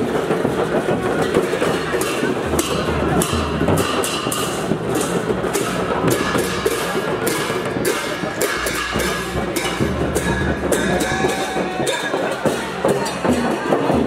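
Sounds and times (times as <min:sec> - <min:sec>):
cymbals clashing: 0:00.0 - 0:14.0
drum beating: 0:00.0 - 0:14.0.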